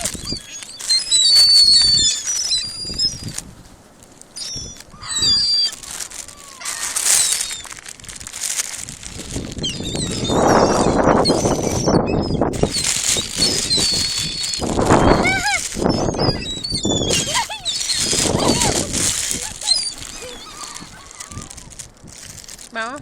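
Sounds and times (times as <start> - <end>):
gulls calling: 0.0 - 3.4, 4.2 - 23.0.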